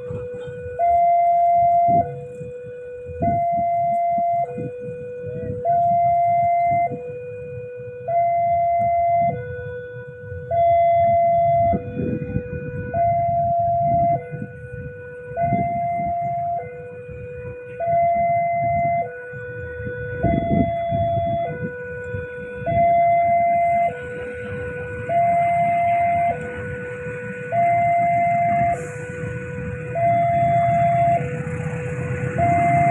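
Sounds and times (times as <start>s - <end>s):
level crossing two-tone alarm: 0.0s - 32.9s
low rumble: 0.0s - 32.9s.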